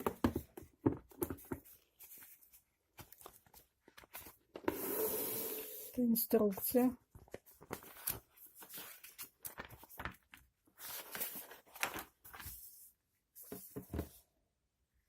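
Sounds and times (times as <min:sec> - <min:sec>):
paper pages rustling: 0:00.0 - 0:04.6, 0:06.3 - 0:14.2.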